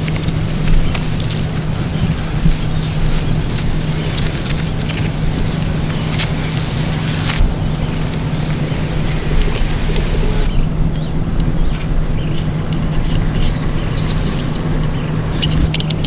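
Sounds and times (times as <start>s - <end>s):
dry leaves rustling: 0.0s - 16.0s
low steady drone: 0.0s - 16.0s
small animal chirping: 0.0s - 16.0s.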